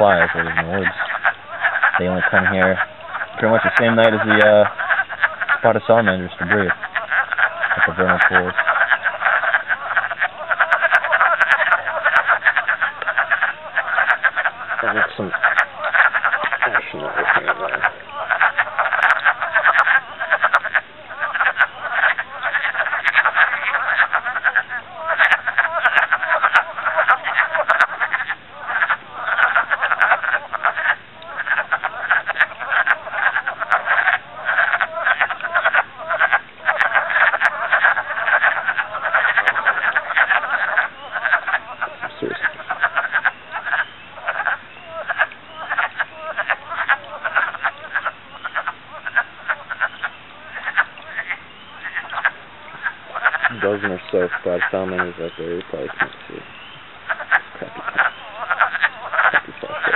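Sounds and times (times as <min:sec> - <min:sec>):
frogs calling in chorus: 0:00.0 - 0:59.9.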